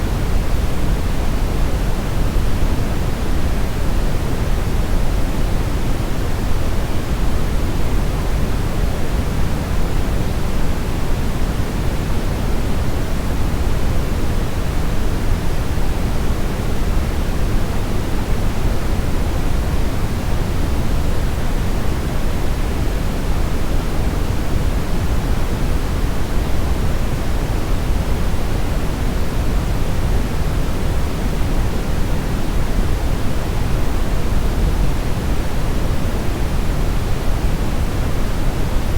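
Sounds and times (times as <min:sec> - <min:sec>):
brown noise hiss: 0:00.0 - 0:38.9.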